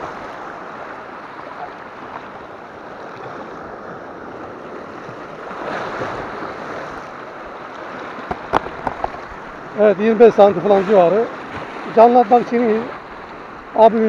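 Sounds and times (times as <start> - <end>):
waves splashing over rocks: 0.0 - 14.0.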